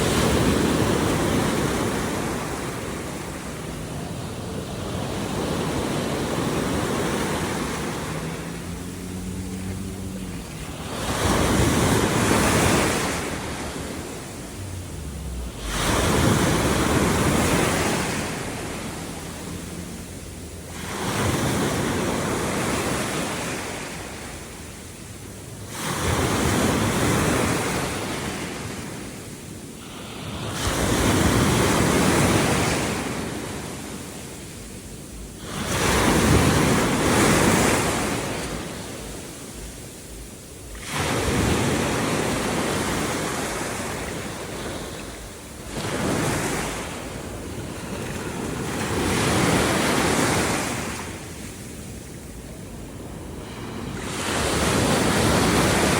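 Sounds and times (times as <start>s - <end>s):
sea waves washing in: 0.0s - 55.9s.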